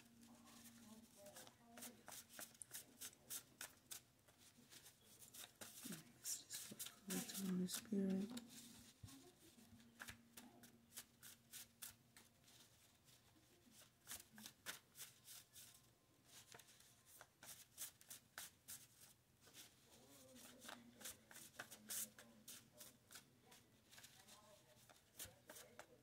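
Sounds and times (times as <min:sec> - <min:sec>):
cards being shuffled: 0:01.4 - 0:09.0, 0:09.8 - 0:12.7, 0:13.7 - 0:19.7, 0:20.4 - 0:23.2, 0:23.9 - 0:25.9.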